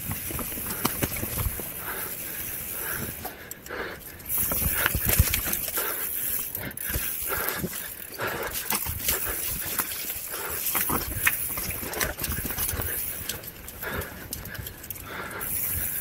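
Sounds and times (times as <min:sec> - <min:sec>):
bike rattling and knocking: 0:00.0 - 0:16.0
bike tyres rolling over dirt: 0:00.0 - 0:16.0.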